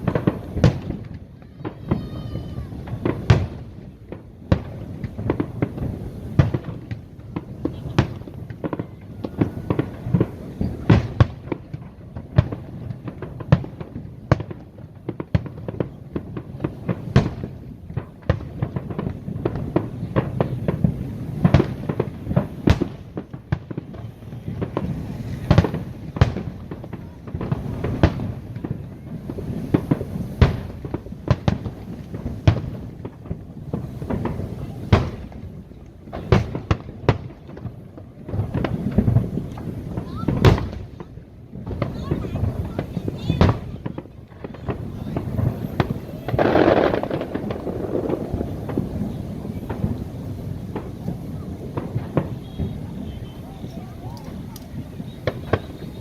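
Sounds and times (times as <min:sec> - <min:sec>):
fireworks bangs and booms: 0:00.0 - 0:56.0
low rumble and crackle: 0:00.0 - 0:56.0.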